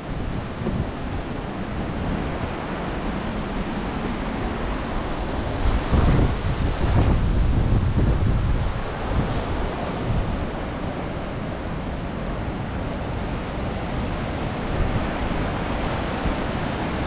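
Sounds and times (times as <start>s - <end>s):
waterfall rushing: 0.0s - 17.0s
wind buffeting microphone: 0.0s - 17.0s.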